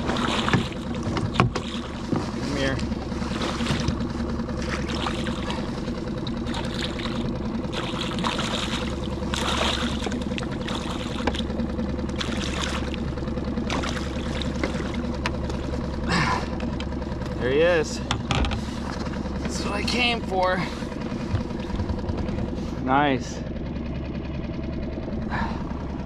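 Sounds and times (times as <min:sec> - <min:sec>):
water lapping against boat hull: 0:00.0 - 0:25.8
steady low hum: 0:00.0 - 0:26.0.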